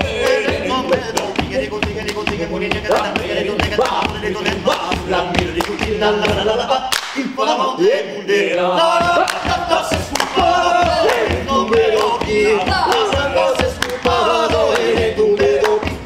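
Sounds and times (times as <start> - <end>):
male vocal group singing: 0.0 - 16.0
hand claps: 1.1 - 7.3, 9.2 - 16.0.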